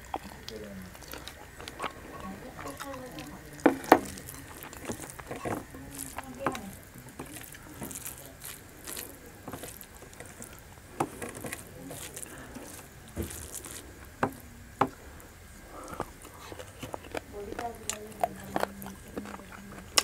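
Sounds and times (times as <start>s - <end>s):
wet squishing of food by hand: 0.0s - 20.0s.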